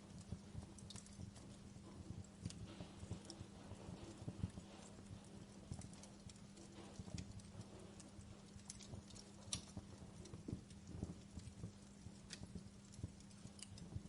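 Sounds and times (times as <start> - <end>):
low steady hum: 0.0 - 14.0
wood fire crackling: 0.0 - 14.0.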